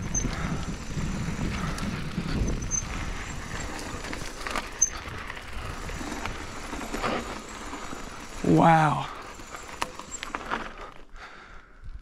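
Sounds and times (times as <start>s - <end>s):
bike tyres on rocky trail: 0.0s - 12.0s.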